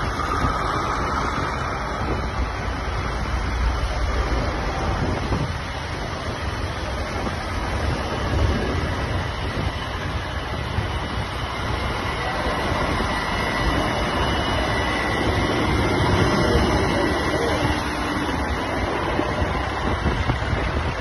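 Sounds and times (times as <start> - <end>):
diesel tractor engines rumbling: 0.0 - 21.0.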